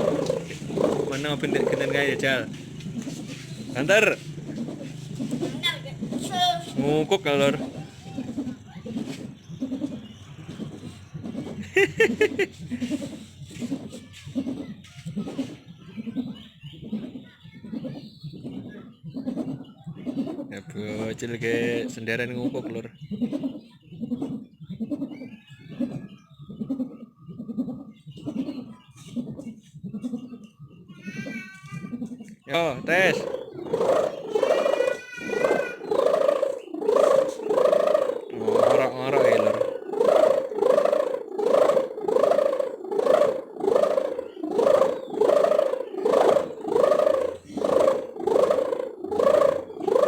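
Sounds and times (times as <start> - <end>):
kite hummer humming in wind: 0.0 - 22.1, 22.8 - 50.0.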